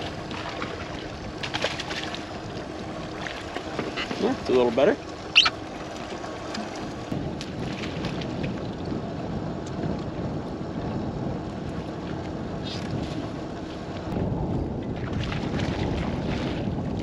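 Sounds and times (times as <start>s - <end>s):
waves lapping against boat: 0.0s - 17.0s
wind rushing across microphone: 0.0s - 17.0s.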